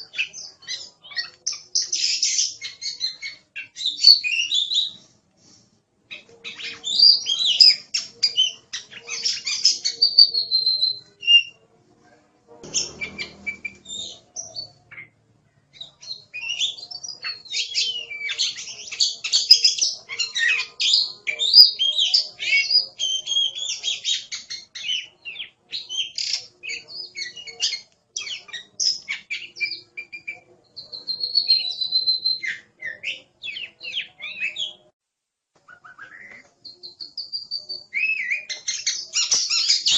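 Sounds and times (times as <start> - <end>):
bird singing whistles and chirps: 0.0 - 5.0, 6.4 - 11.6, 12.6 - 15.2, 15.8 - 34.9, 35.7 - 39.9.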